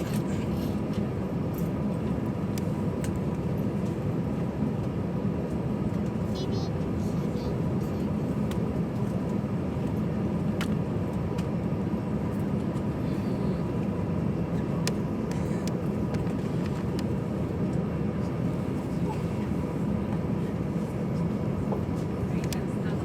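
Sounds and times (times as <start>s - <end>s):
low airplane cabin drone: 0.0s - 23.0s.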